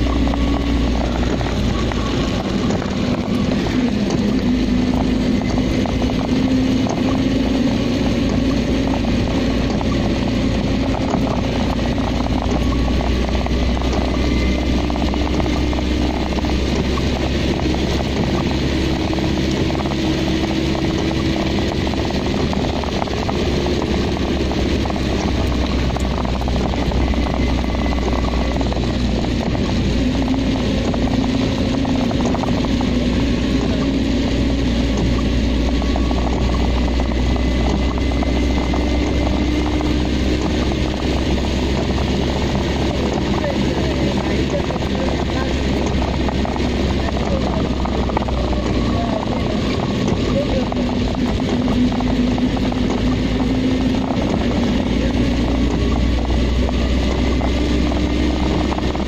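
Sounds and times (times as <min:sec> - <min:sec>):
car engine drone: 0:00.0 - 0:59.0
rain: 0:00.0 - 0:59.0
tyre noise on wet road: 0:00.0 - 0:59.0.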